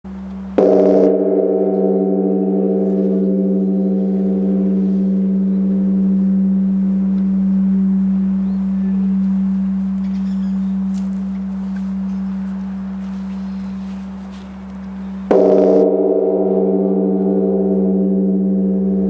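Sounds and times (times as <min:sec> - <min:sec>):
deep bell hum: 0:00.1 - 0:19.0
large temple bell struck: 0:00.6 - 0:14.0, 0:15.2 - 0:19.0.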